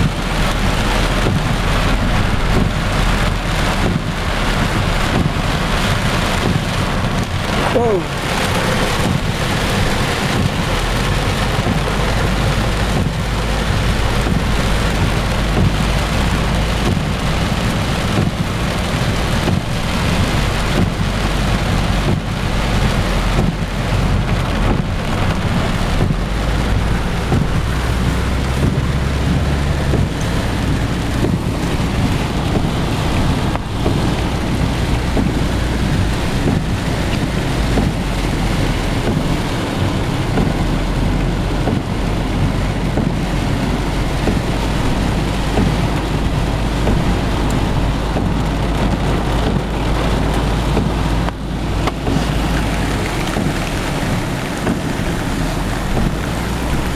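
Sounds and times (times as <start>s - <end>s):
heavy rain beating on car: 0.0s - 56.9s
wind rumbling on microphone: 0.0s - 56.9s.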